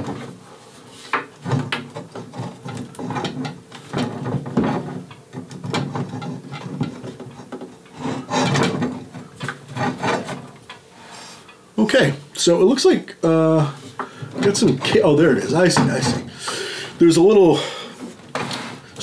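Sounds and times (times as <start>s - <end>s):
scraping rubbing and knocks: 0.0s - 11.2s, 13.5s - 19.0s.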